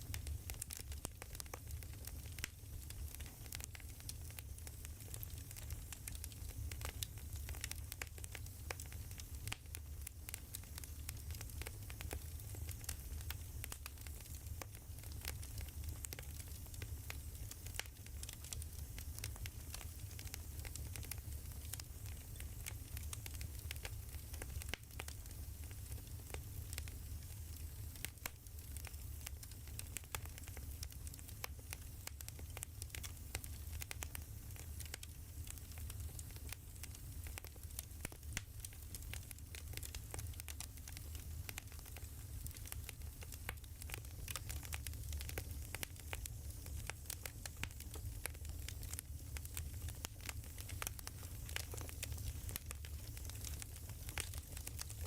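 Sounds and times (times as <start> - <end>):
firewood crackling and popping: 0.0 - 55.0
low fire rumble: 0.0 - 55.0.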